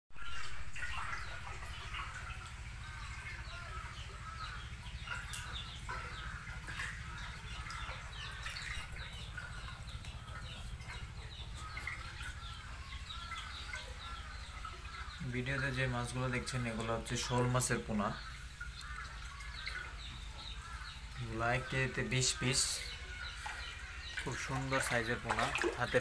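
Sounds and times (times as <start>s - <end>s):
birds chirping and twittering: 0.1s - 26.0s.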